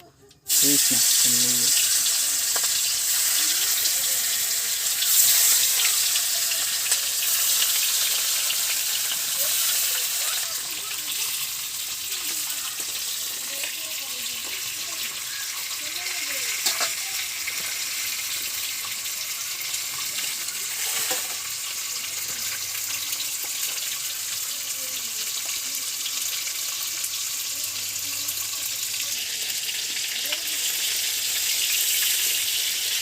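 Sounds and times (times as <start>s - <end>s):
fish sizzling in hot oil: 0.3s - 33.0s.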